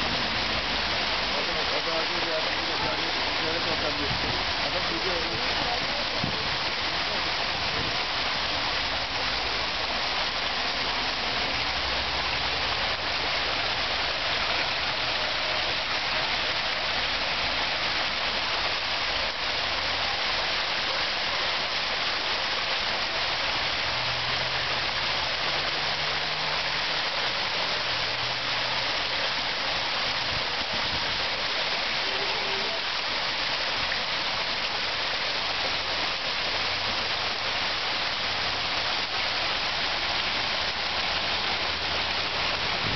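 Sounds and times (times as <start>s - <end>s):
waterfall splashing: 0.0s - 42.9s.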